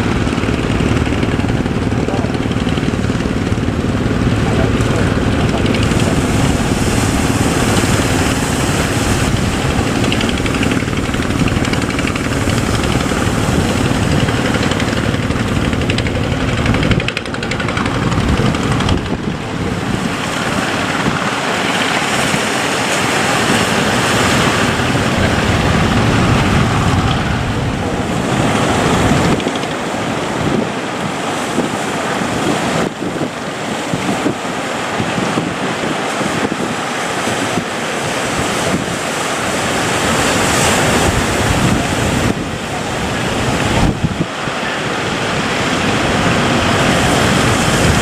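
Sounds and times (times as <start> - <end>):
boat engine rumble: 0.0 - 48.0
waves and spray against hull: 0.0 - 48.0
wind buffeting microphone: 0.0 - 48.0.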